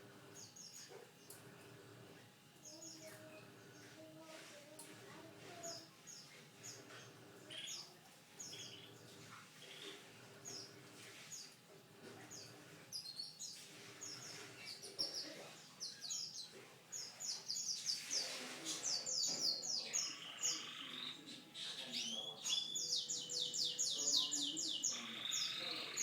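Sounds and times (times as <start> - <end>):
canary singing: 2.6 - 4.0, 5.5 - 11.6, 12.3 - 26.0.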